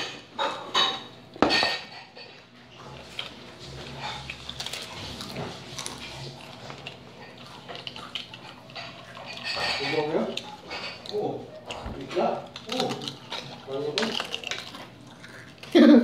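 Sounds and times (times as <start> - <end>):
crisps crunching: 2.8 - 15.8.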